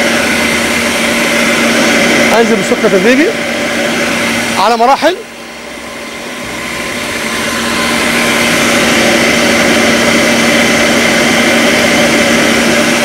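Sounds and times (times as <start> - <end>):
stand mixer whisking: 0.0 - 13.0.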